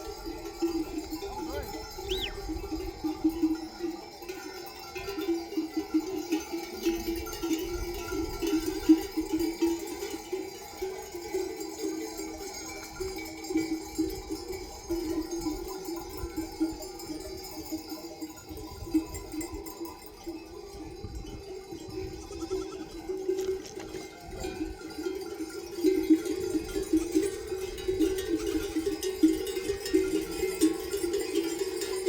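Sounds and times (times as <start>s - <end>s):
sheep bells clanking: 0.0s - 32.0s.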